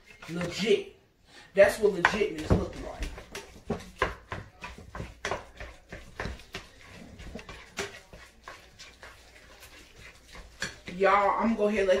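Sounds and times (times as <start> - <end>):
metal utensil scraping glass bowl: 0.0 - 0.8, 1.6 - 12.0.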